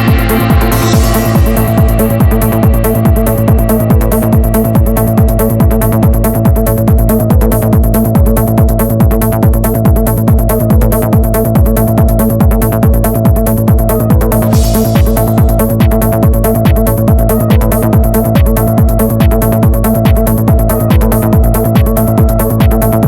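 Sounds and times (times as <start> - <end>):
electronic dance music: 0.0 - 23.0.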